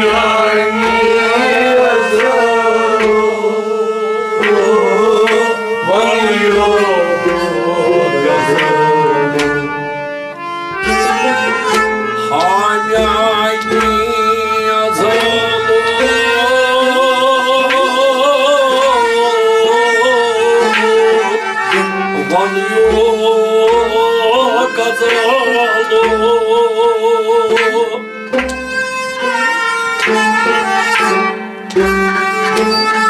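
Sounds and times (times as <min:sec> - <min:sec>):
bowed sarangi: 0:00.0 - 0:33.0
harmonium: 0:00.0 - 0:33.0
plucked rabab: 0:00.0 - 0:33.0.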